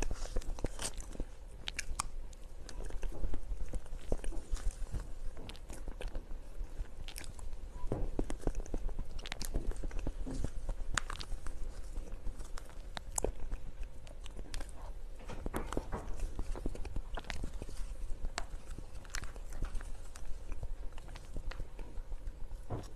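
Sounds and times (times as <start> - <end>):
wet chewing: 0.0 - 22.9.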